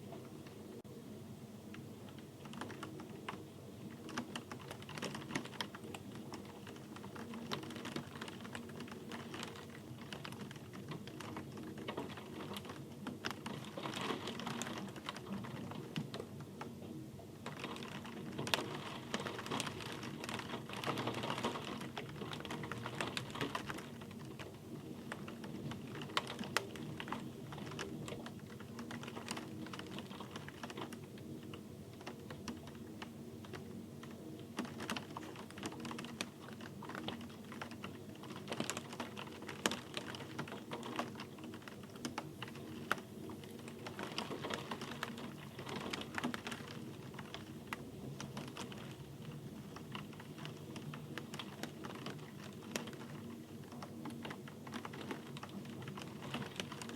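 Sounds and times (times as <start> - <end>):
raindrops ticking: 1.7 - 56.9.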